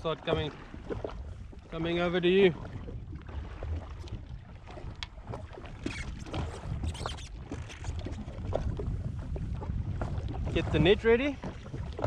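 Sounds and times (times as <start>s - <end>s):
water lapping against hull: 0.0s - 12.0s
water splashes: 0.0s - 12.0s
wind on microphone: 0.0s - 12.0s.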